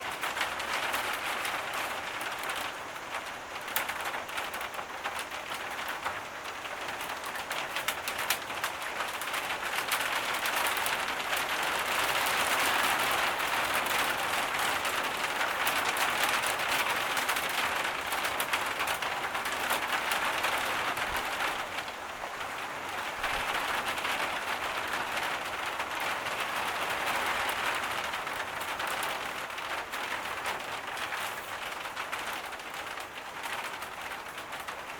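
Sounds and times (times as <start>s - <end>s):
crackle of raindrops striking: 0.0s - 34.9s
heavy rain falling: 0.0s - 34.9s.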